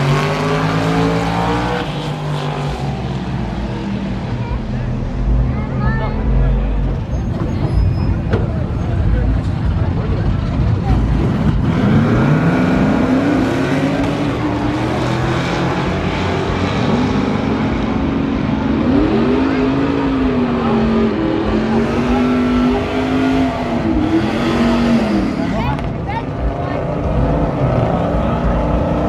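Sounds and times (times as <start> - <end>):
truck engine accelerating: 0.0 - 29.0
truck engine revving: 0.0 - 29.0.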